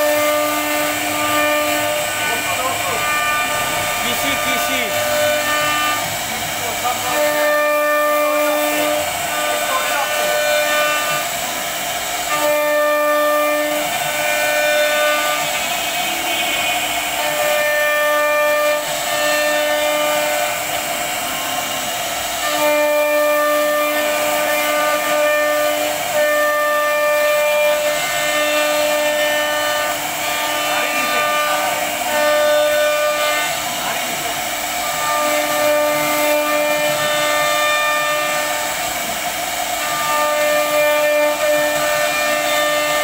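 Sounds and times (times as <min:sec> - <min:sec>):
hiss of wood cutting: 0:00.0 - 0:43.0
router spindle whine: 0:00.0 - 0:43.0.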